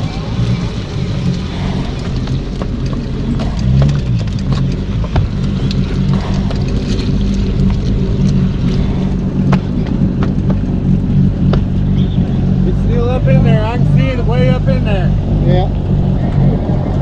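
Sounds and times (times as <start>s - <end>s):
engine idling: 0.0s - 17.0s
sharp clicks and crackles: 0.0s - 17.0s.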